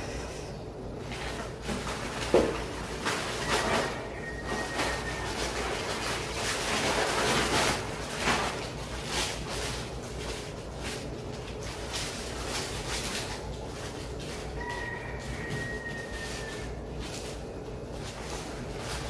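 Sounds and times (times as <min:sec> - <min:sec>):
plastic packaging crinkling: 0:01.0 - 0:19.0.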